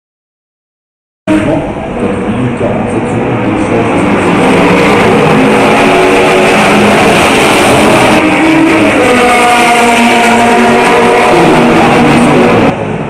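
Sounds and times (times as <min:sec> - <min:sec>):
racing car engines: 0:01.3 - 0:13.0.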